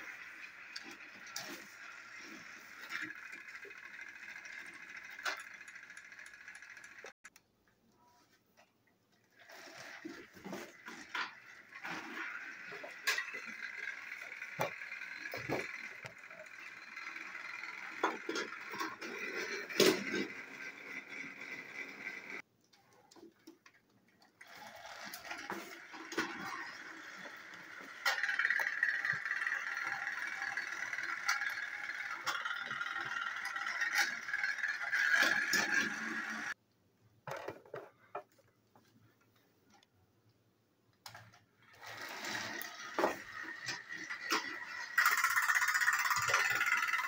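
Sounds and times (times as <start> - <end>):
toy train motors whirring: 0.0 - 7.4, 9.3 - 22.5, 24.2 - 36.6, 41.0 - 47.0.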